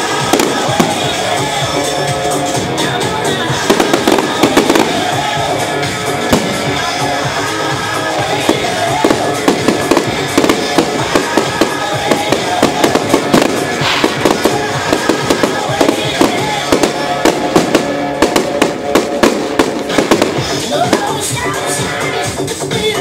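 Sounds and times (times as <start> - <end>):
fireworks bursting and crackling: 0.0 - 23.0
music playing: 0.0 - 23.0.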